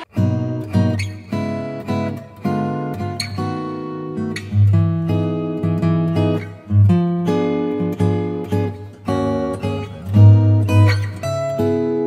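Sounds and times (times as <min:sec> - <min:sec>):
strummed acoustic guitar chords: 0:00.0 - 0:12.0.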